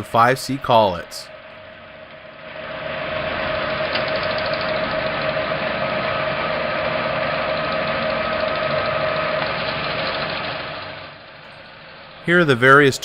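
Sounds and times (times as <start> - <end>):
lathe running with whine: 0.7 - 13.0.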